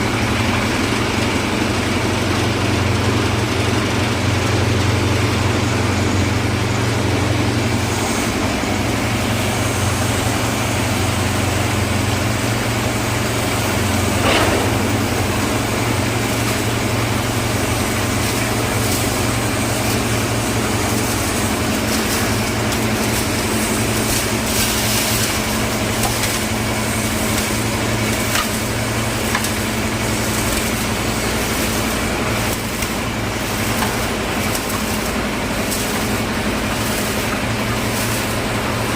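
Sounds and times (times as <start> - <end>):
concrete mixer running: 0.0 - 38.9.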